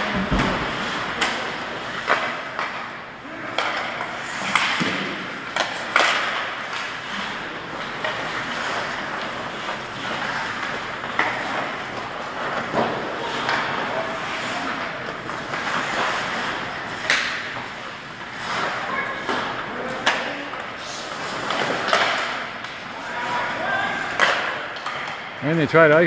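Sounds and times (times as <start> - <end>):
hockey sticks and puck cracking: 0.0 - 25.4
skates scraping ice: 0.0 - 26.0.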